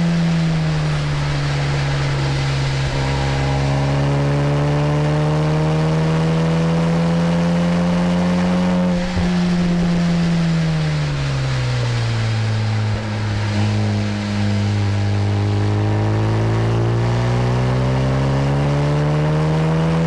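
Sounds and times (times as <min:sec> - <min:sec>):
car engine pulling hard: 0:00.0 - 0:20.0.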